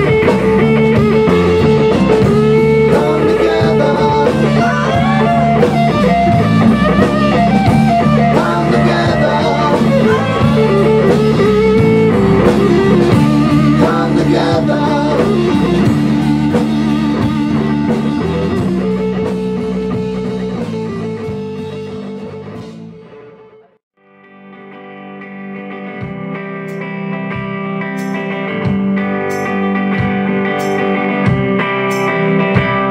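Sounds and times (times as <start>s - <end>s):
drum kit: 0.0s - 23.7s, 25.7s - 32.9s
electric bass: 0.0s - 23.8s, 24.4s - 32.9s
electric guitar: 0.0s - 32.9s.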